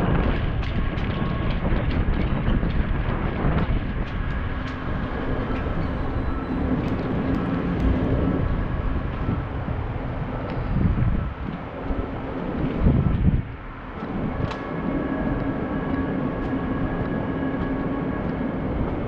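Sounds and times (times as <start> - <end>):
tyres rumbling on pavement: 0.0 - 19.0
wind buffeting microphone: 0.0 - 19.0.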